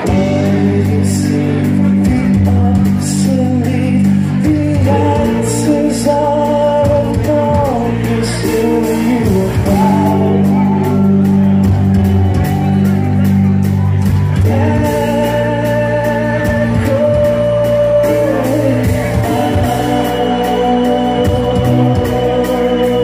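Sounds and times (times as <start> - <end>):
person singing long notes: 0.0 - 12.3, 14.4 - 23.0
metal band playing live: 0.0 - 23.0.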